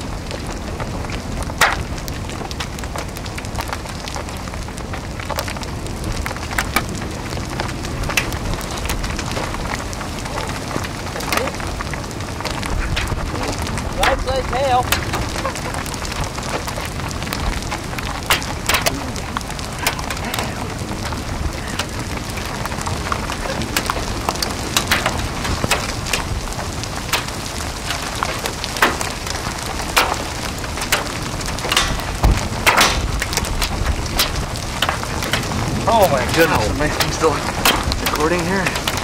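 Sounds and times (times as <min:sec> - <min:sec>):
hailstones tapping: 0:00.0 - 0:39.0
rain rushing: 0:00.0 - 0:39.0.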